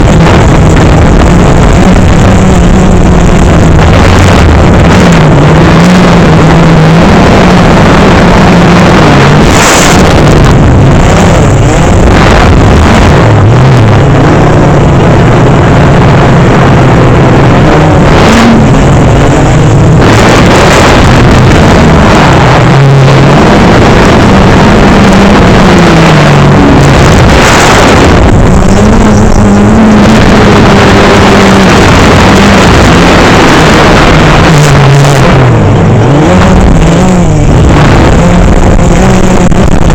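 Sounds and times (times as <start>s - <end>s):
drone propellers humming: 0.0s - 39.9s
loud steady rushing noise: 0.0s - 39.9s.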